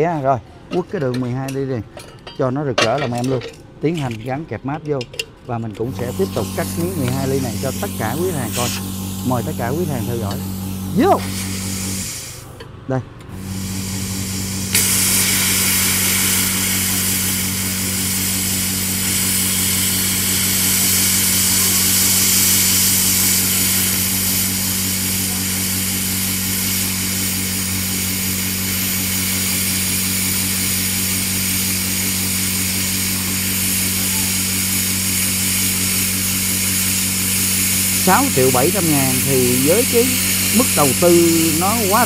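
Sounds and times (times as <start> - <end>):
steady low hum: 5.5 - 42.0
plasma cutter arc hissing: 5.8 - 12.6, 13.3 - 42.0.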